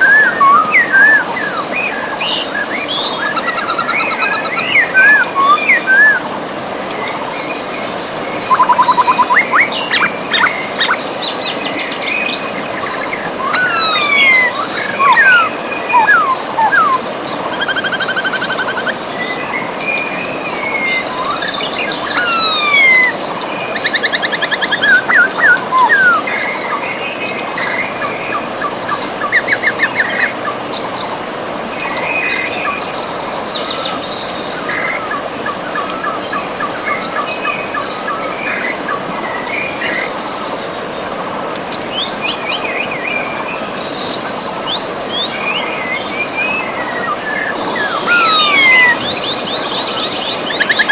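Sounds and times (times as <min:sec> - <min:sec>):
birds singing and calling: 0:00.0 - 0:50.9
river rushing: 0:00.0 - 0:50.9.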